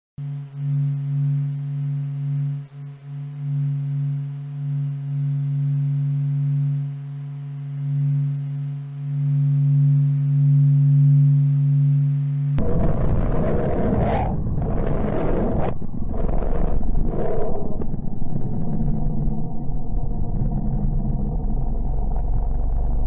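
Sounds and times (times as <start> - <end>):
low drone of held tones: 0.2 - 23.0.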